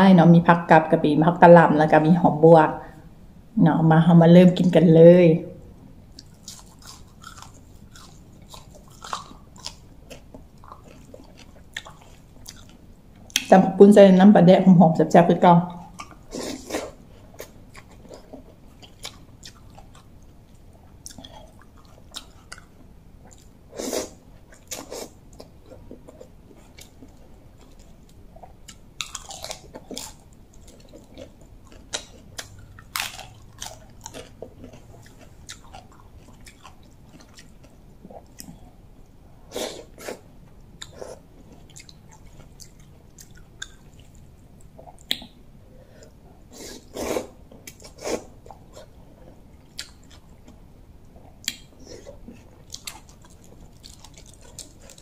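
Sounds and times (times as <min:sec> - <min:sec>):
person chewing: 0:06.1 - 0:13.4, 0:15.8 - 0:55.0.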